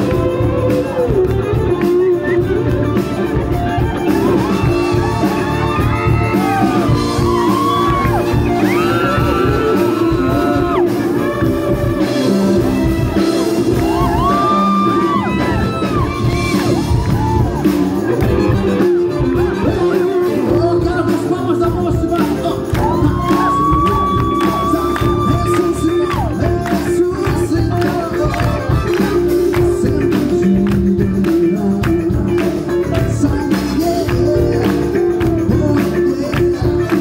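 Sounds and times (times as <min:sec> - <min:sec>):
drums: 0:00.0 - 0:37.0
electric guitar: 0:00.0 - 0:37.0
person singing: 0:00.0 - 0:37.0.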